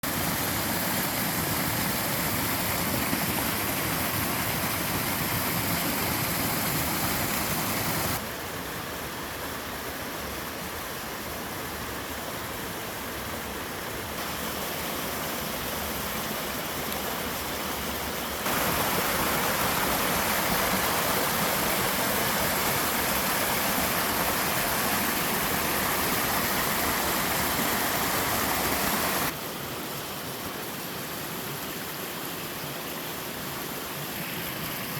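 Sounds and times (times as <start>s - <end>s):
water rushing over small waterfalls: 0.0s - 34.9s.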